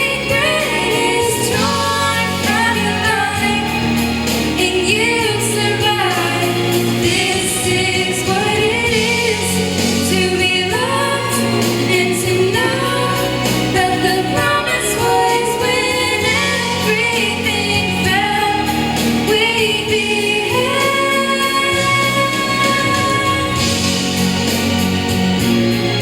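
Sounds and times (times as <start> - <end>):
choir singing: 0.0 - 26.0
musical accompaniment: 0.0 - 26.0.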